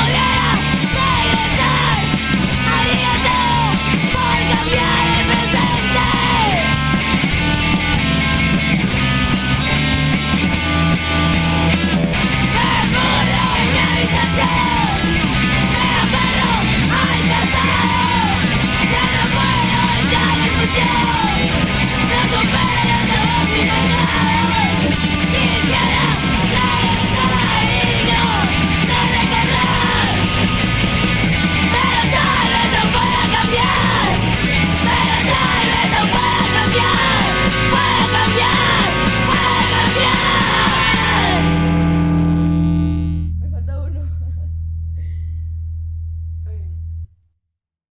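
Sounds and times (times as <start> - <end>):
punk rock band playing: 0.0 - 43.4.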